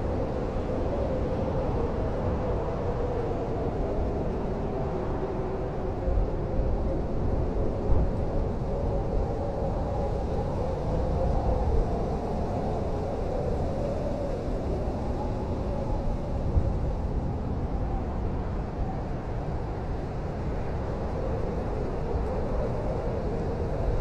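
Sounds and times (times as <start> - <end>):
howling blizzard wind: 0.0 - 24.0.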